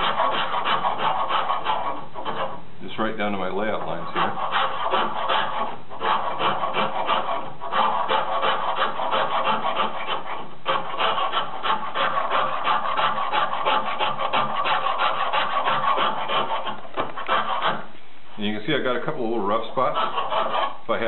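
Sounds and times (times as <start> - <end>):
rasp scraping wood: 0.0 - 17.9, 19.0 - 21.0.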